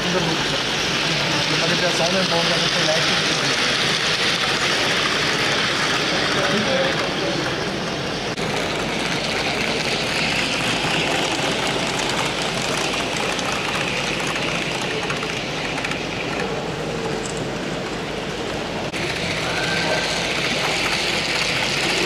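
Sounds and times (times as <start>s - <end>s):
model train motors whirring: 0.0s - 22.0s.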